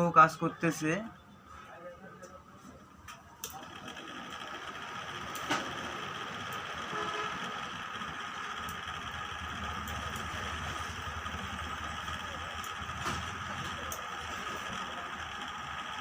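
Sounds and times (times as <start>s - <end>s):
small fan whirring: 2.8s - 16.0s.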